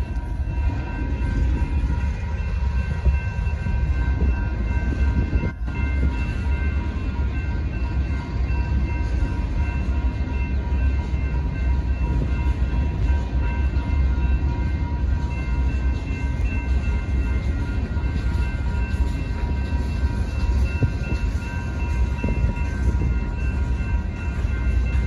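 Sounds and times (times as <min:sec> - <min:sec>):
crossing signal bells ringing: 0:00.0 - 0:25.0
freight train rumbling: 0:00.0 - 0:25.0.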